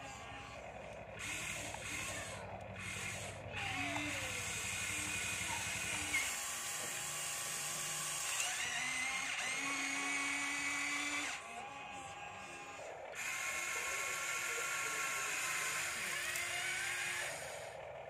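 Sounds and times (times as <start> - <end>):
toy excavator motors whining: 0.0 - 18.0.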